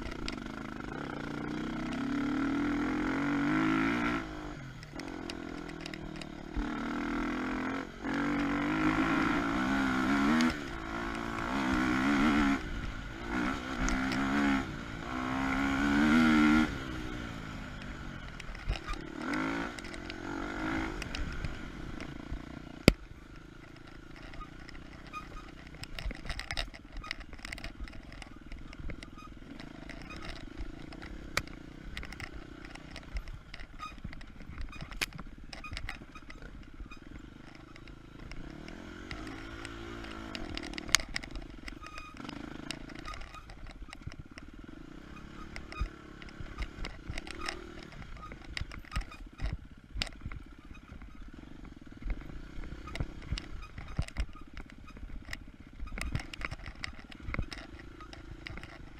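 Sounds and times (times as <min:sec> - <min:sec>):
clicks and knocks on rough ground: 0:00.0 - 0:58.9
motorcycle engine revving: 0:00.0 - 0:58.9.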